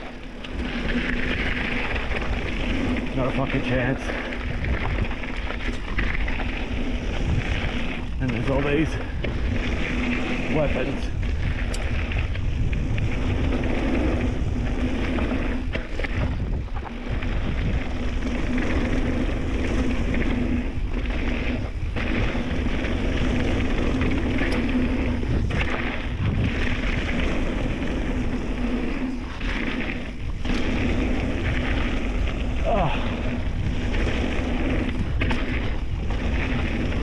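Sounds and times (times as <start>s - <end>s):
bike tyres rumbling on dirt: 0.0s - 37.0s
wind buffeting microphone: 0.0s - 37.0s.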